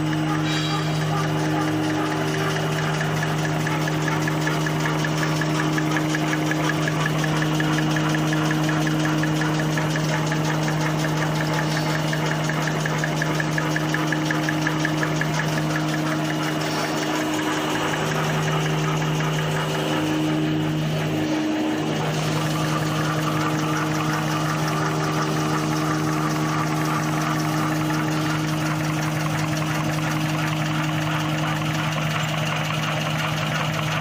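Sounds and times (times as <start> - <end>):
mechanical clatter of rollers: 0.0 - 34.0
motor hum: 0.0 - 34.0.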